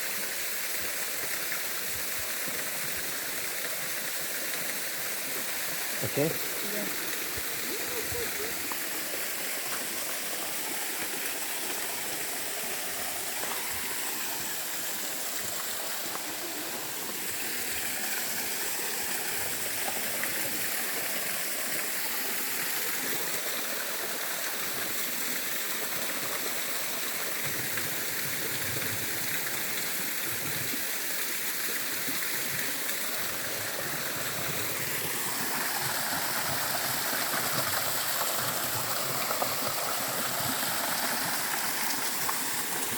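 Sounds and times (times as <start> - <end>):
waterfall rushing and splashing: 0.0 - 42.9.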